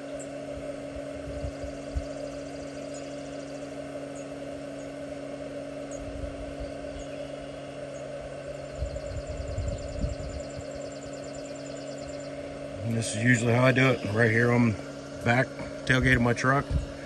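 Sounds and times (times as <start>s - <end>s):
power inverter hum and whir: 0.0s - 17.0s.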